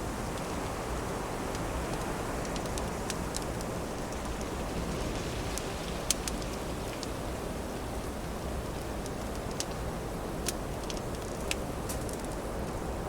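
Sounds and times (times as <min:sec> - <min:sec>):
wood fire crackling: 0:00.0 - 0:12.8.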